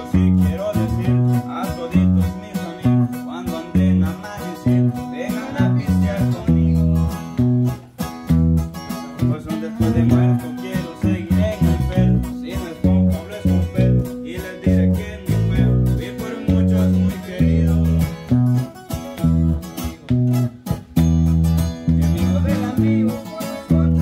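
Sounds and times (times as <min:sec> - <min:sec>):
plucked guitars: 0:00.0 - 0:24.0
rhythmic bass line: 0:00.0 - 0:24.0.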